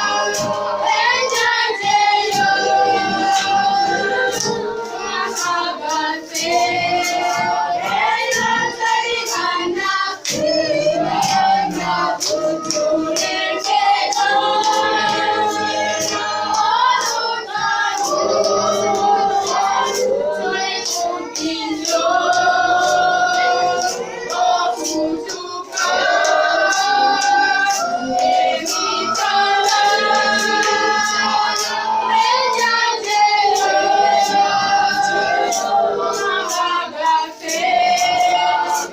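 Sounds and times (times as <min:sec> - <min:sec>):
group singing a church song: 0:00.0 - 0:38.9
musical accompaniment with steady beat: 0:00.0 - 0:38.9.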